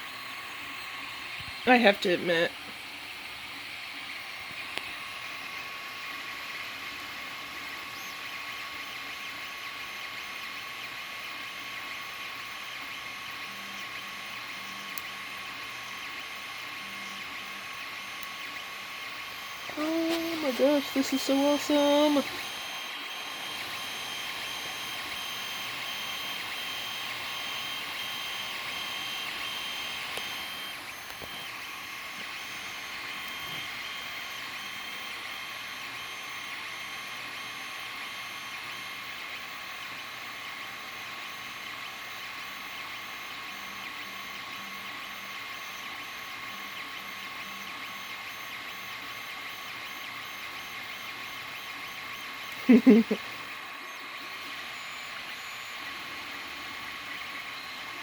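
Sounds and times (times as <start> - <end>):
steady whirring: 0.0 - 58.0
stepper motors whining: 0.0 - 58.0.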